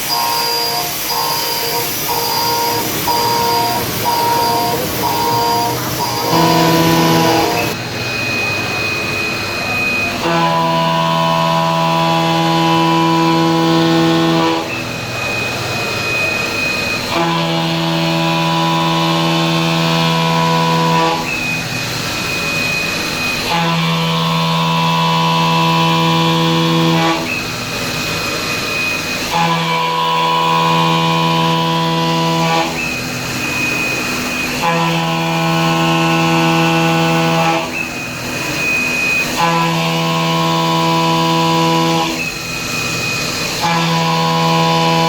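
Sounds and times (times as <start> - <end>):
milling machine cutting: 0.0 - 45.0.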